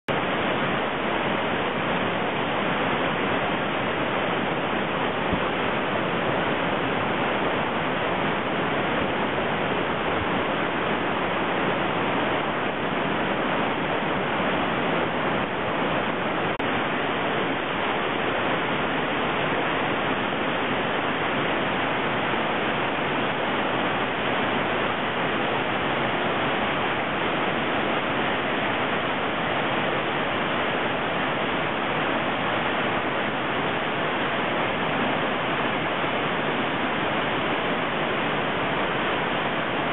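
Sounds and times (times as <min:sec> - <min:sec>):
waterfall roaring: 0:00.1 - 0:39.9.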